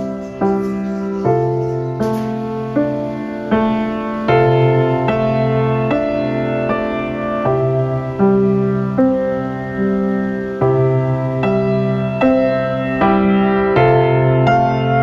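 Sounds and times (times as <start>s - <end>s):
keyboard playing slow chords: 0.0s - 15.0s.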